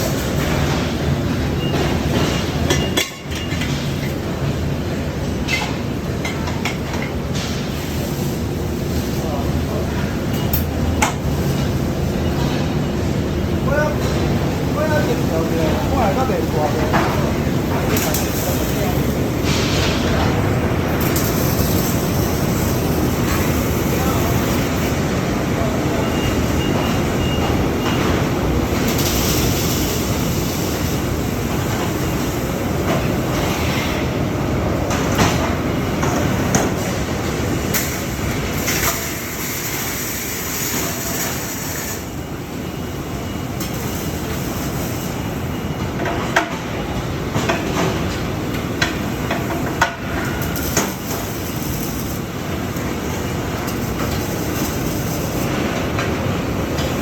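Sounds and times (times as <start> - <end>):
welding production line noise: 0.0 - 57.0.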